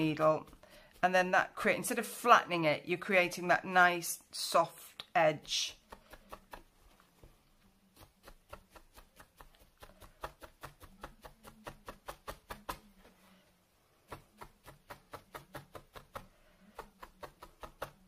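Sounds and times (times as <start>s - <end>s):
felting needle poking wool: 0.0s - 2.2s, 4.9s - 18.0s.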